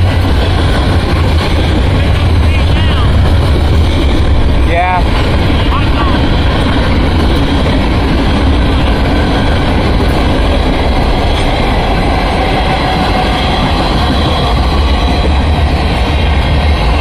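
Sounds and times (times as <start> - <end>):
freight train rolling past: 0.0 - 17.0
steel wheels clattering on rails: 0.0 - 17.0.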